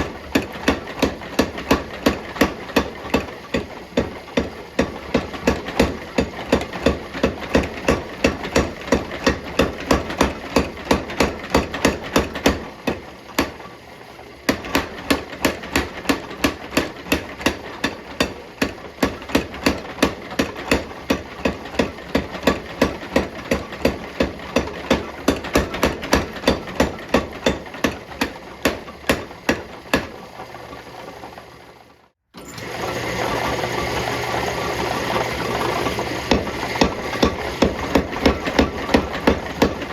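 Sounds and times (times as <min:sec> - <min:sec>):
hammer forging hot steel: 0:00.0 - 0:13.7, 0:14.5 - 0:30.2, 0:36.2 - 0:39.9.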